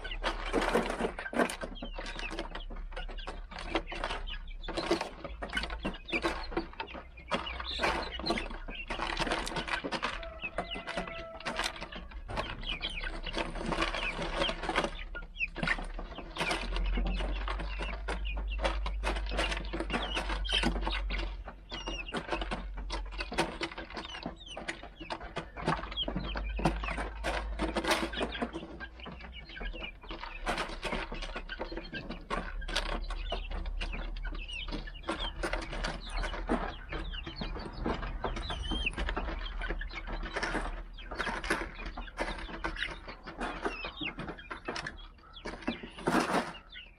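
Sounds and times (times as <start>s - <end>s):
chickens pecking taps: 0.0s - 46.9s
chicks cheeping: 0.0s - 46.9s.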